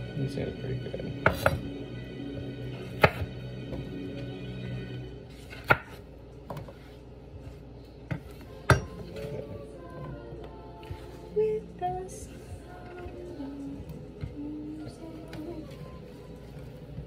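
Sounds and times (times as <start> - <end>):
background music: 0.0 - 6.2, 8.1 - 17.0.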